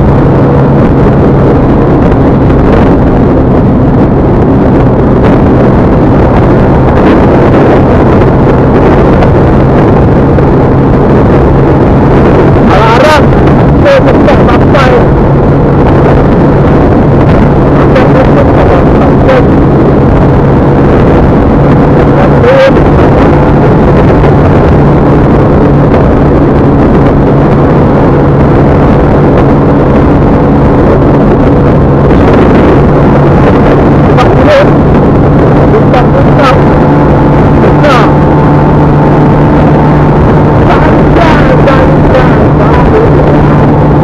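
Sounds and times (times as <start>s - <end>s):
low engine hum: 0.0s - 44.0s
road and wind noise: 0.0s - 44.0s.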